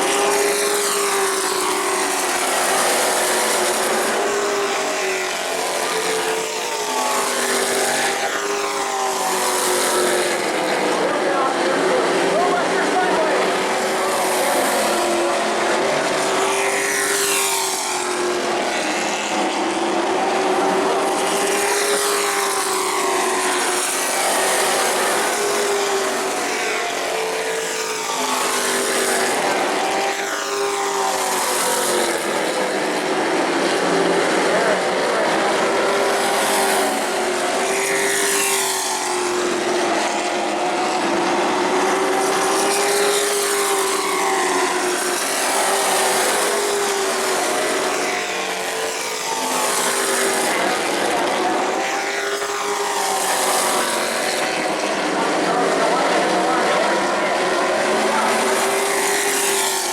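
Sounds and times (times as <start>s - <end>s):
race truck engines passing: 0.0s - 59.9s.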